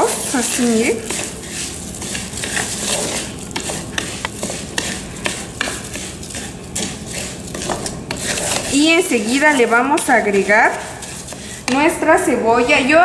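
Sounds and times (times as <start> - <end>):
rice frying in oil: 0.0 - 11.9
spatula stirring rice in clay pot: 0.0 - 12.1.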